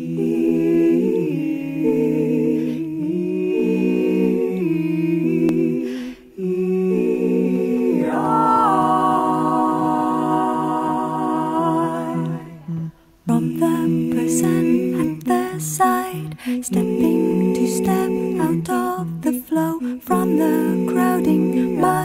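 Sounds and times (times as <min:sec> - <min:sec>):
unaccompanied voices singing chords: 0:00.0 - 0:22.0.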